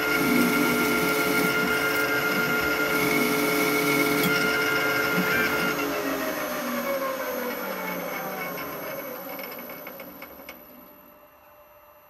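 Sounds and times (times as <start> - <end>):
lathe spindle whine winding down: 0.0 - 11.6.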